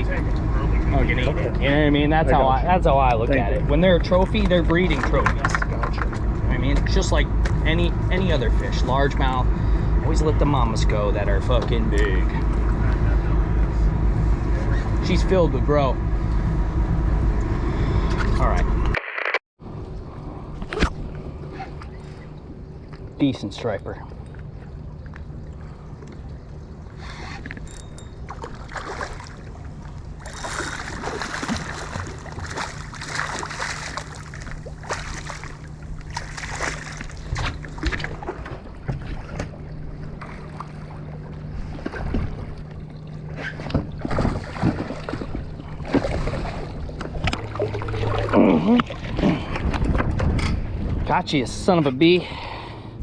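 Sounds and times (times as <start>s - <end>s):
boat engine humming: 0.0s - 18.9s, 19.6s - 53.0s
water splashing against hull: 2.8s - 15.0s, 19.8s - 51.0s.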